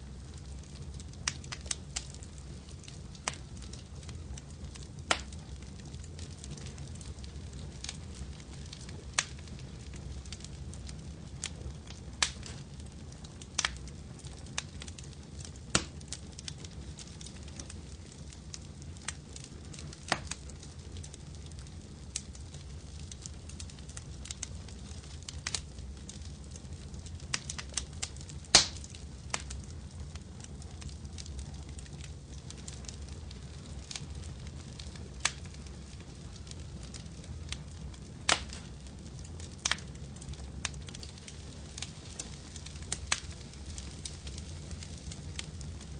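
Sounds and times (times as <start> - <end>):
low rumble of flames: 0.0 - 45.9
wood fire crackling: 0.0 - 45.9.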